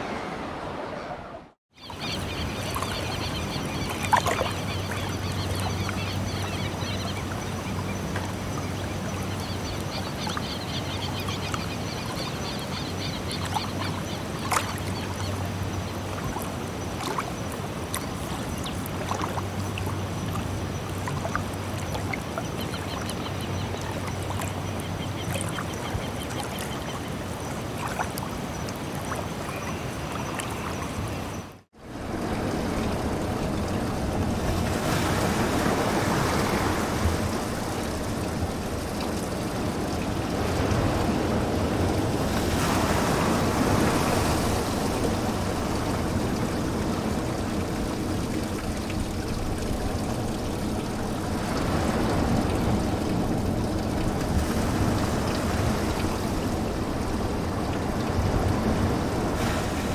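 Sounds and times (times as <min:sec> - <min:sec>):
sea noise: 0:00.0 - 0:59.9.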